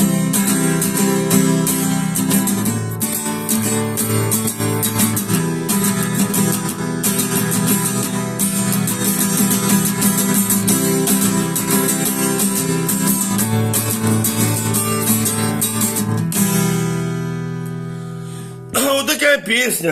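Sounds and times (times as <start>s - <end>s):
acoustic guitar strumming chords: 0.0s - 19.9s.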